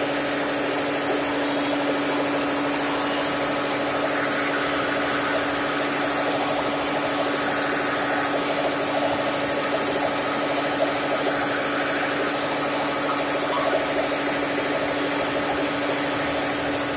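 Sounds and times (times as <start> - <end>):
flour mill humming and rattling: 0.0 - 16.9.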